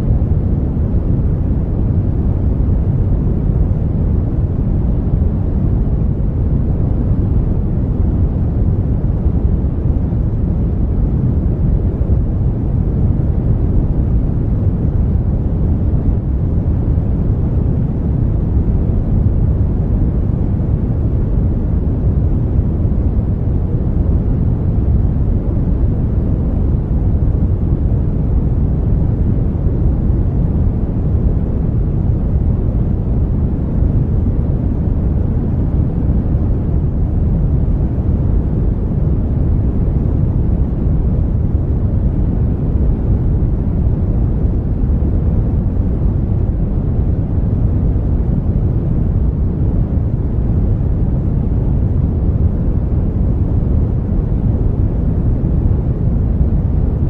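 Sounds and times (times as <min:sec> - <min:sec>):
deep brown noise hiss: 0:00.0 - 0:57.0.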